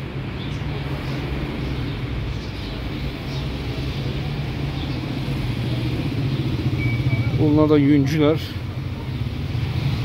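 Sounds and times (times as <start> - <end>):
car engines humming in traffic: 0.0 - 10.0.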